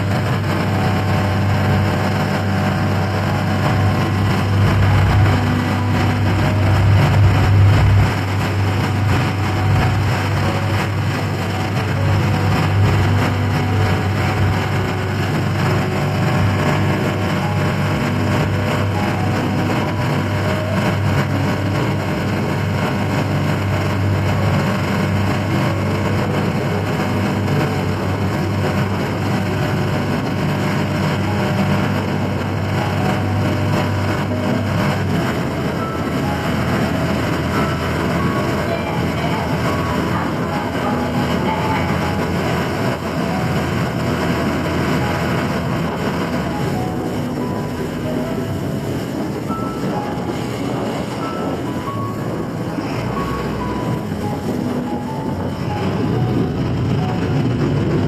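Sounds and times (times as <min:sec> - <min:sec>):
ferry engine humming: 0:00.0 - 0:58.0.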